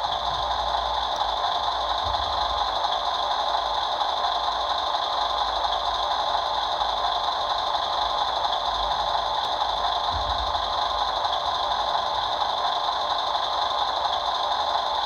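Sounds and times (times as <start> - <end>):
simulated diesel engine idle: 0.0 - 15.0.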